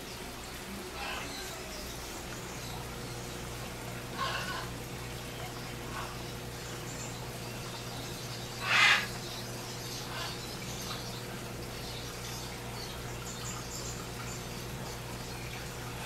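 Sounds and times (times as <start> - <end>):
electrical hum: 0.0 - 16.0
faint water sounds: 0.0 - 16.0.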